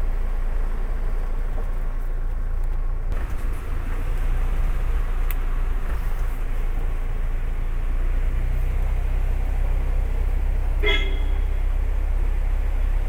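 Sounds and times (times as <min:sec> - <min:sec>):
car engine rumble from cabin: 0:00.0 - 0:13.0.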